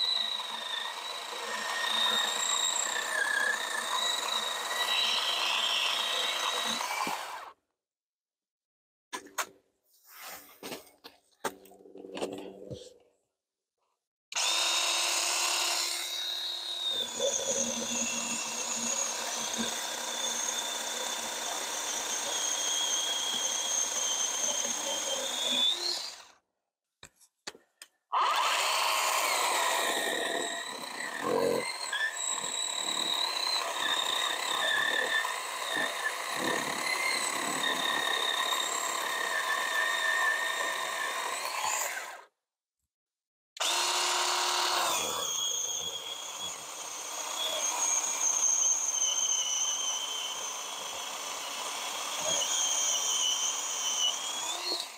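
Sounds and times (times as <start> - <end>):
cordless chainsaw cutting log: 0.0 - 7.6, 14.4 - 26.4, 28.2 - 42.3, 43.6 - 54.9.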